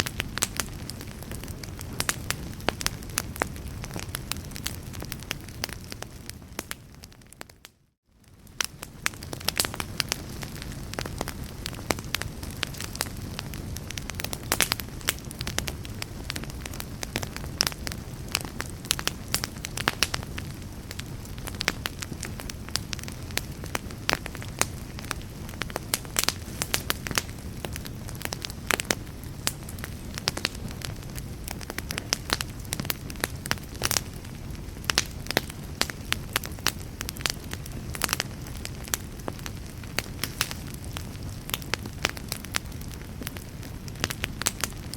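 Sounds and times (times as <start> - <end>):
fire crackling: 0.0 - 44.9.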